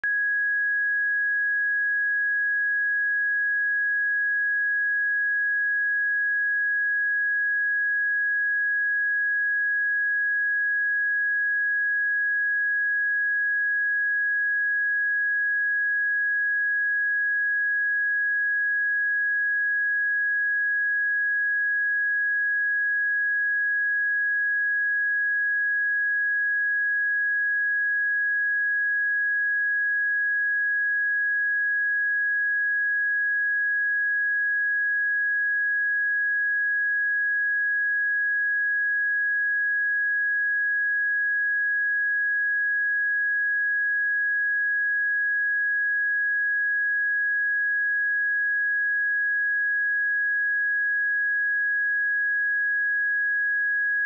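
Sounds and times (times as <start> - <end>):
high-pitched sine tone: 0.0 - 54.0.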